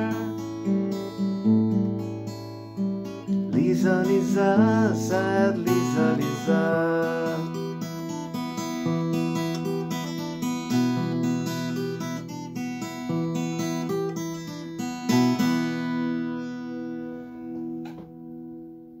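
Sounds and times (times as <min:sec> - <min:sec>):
acoustic guitar picking chords: 0:00.0 - 0:19.0.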